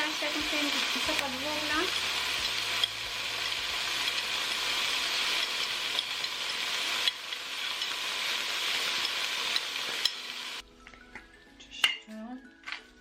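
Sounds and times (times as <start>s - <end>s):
food sizzling in a frying pan: 0.0s - 10.6s.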